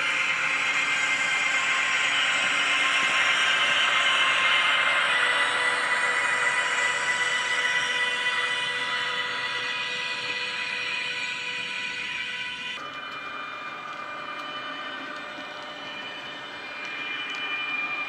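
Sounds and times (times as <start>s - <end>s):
model locomotive electric whine: 0.0s - 18.0s.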